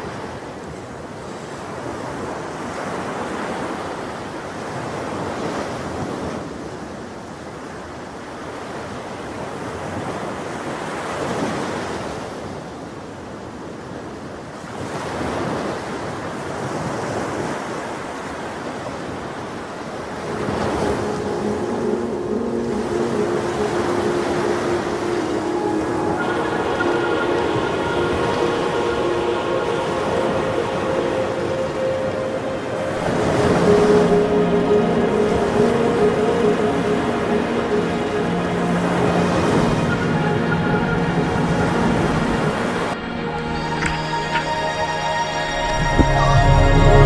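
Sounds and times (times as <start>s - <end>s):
ocean surf washing ashore: 0.0s - 47.0s
wind: 0.0s - 47.0s.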